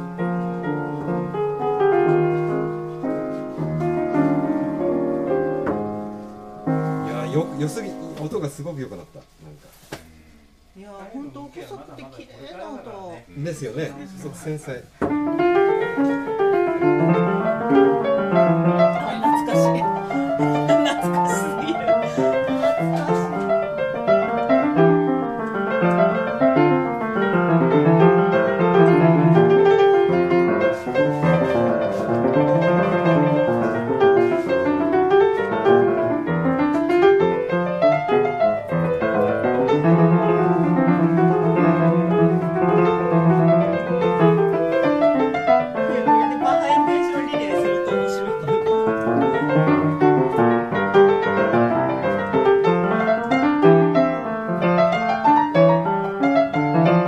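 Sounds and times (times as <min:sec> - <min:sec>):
upright piano flowing chords: 0:00.0 - 0:09.3, 0:13.3 - 0:57.0.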